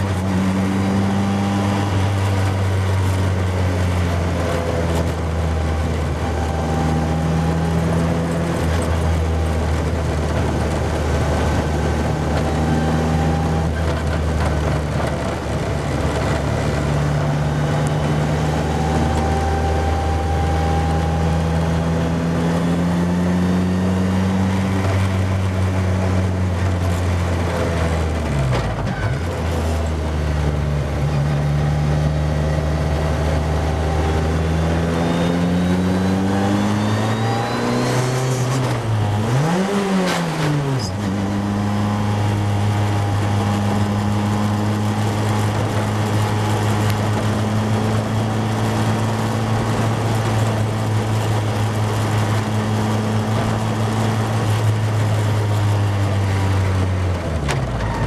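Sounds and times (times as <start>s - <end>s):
racing car engine running hard: 0.0s - 58.0s.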